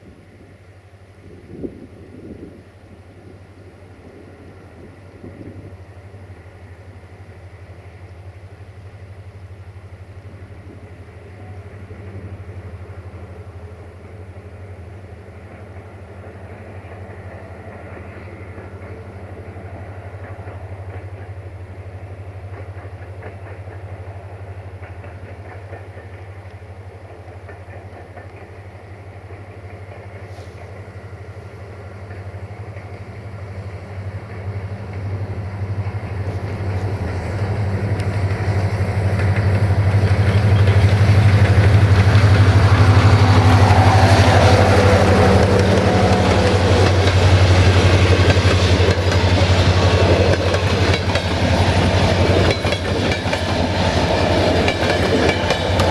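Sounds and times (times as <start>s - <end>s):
diesel locomotive engine drone: 0.0s - 55.9s.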